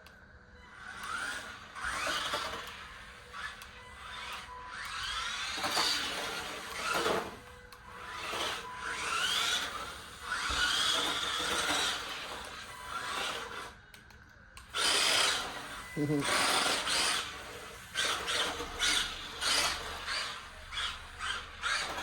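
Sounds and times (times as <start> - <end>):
toy car electric motor whining: 0.0 - 22.0.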